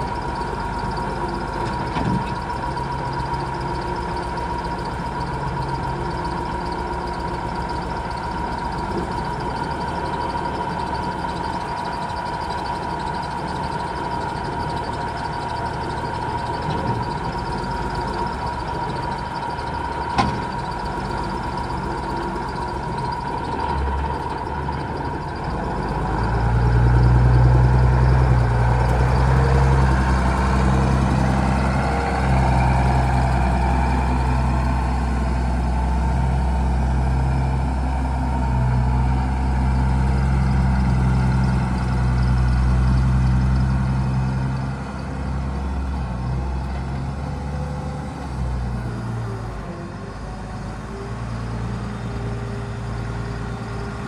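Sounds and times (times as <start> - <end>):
constant high tone: 0.0 - 54.0
tractor diesel engine running: 0.0 - 54.0.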